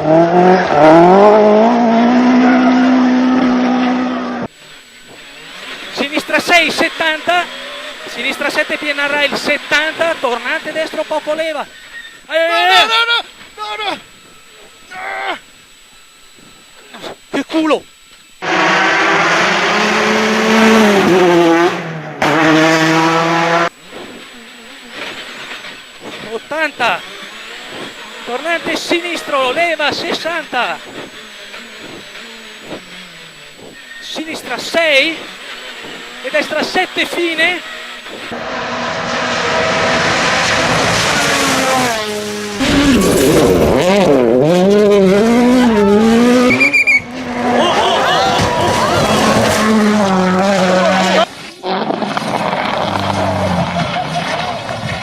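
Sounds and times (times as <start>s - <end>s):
rally car engine revving hard: 0.0s - 4.5s, 5.1s - 11.6s, 18.4s - 55.0s.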